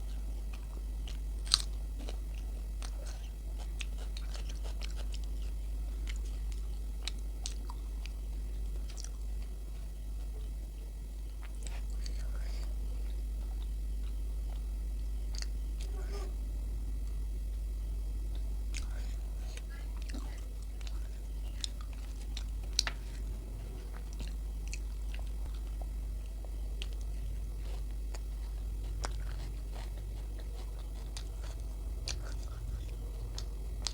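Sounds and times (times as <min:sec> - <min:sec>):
close chewing mouth sounds: 0:00.0 - 0:15.9, 0:18.3 - 0:33.9
steady low hum: 0:00.0 - 0:33.9.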